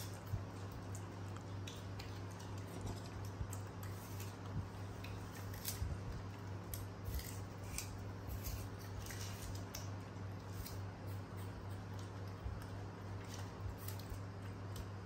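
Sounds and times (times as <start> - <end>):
monkeys chewing crisp apple: 0.0 - 15.0
steady low hum: 0.0 - 15.0.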